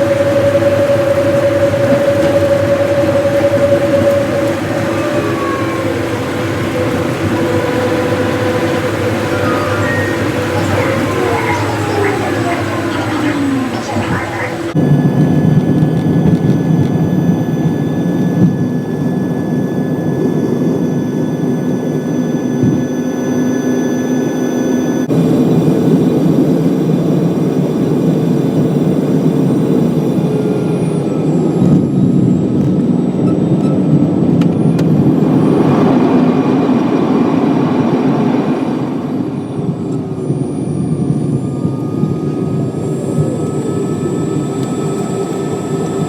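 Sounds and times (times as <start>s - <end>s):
jet engines droning in cabin: 0.0s - 46.0s.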